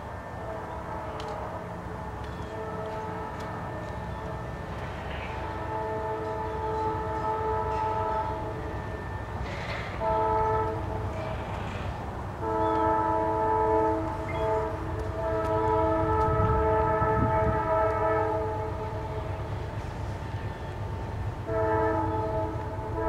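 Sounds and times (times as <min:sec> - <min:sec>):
train rumbling: 0:00.0 - 0:23.0
locomotive air horn blasts: 0:00.3 - 0:23.0.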